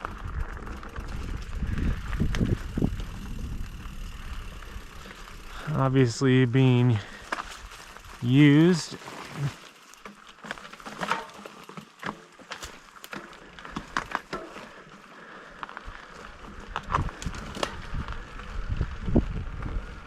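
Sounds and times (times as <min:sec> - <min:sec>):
bike crackling over twigs and leaves: 0:00.0 - 0:20.0.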